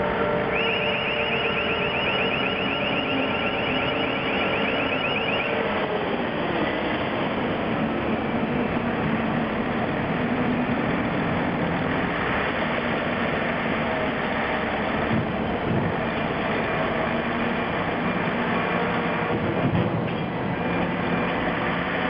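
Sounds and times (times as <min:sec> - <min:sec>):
crane machinery drone: 0:00.0 - 0:22.0.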